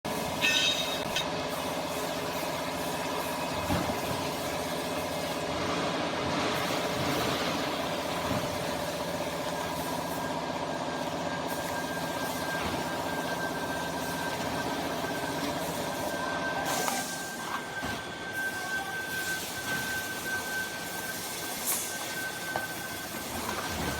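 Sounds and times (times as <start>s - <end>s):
hydraulic machine hum and whine: 0.1s - 23.9s.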